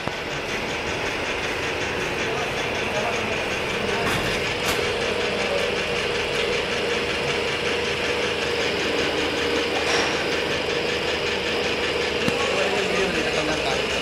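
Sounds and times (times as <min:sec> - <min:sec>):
metal lathe humming: 0:00.0 - 0:14.0.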